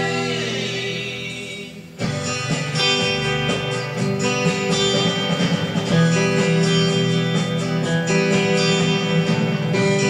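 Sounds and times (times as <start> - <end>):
electric guitar strumming chords: 0.0 - 10.0.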